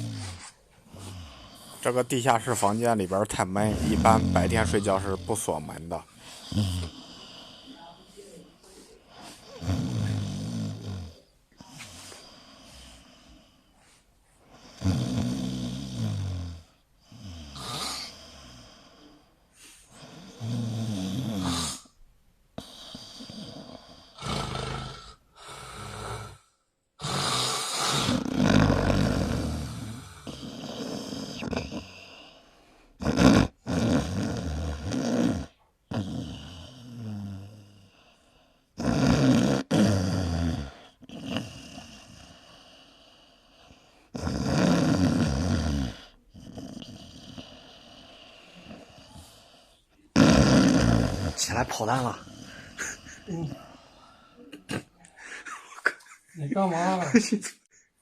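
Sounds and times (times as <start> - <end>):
man snoring: 0.0 - 8.0, 9.2 - 13.6, 14.6 - 22.0, 22.6 - 55.4.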